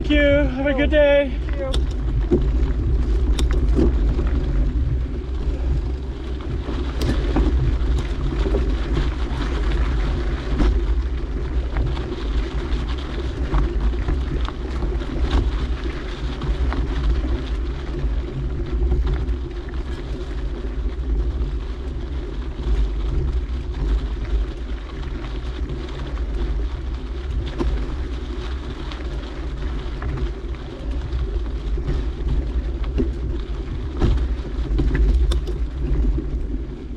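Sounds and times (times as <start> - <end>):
bike clicks and rattles: 0.0 - 36.9
bike rolling over dirt trail: 0.0 - 36.9
wind rumbling on microphone: 0.0 - 36.9.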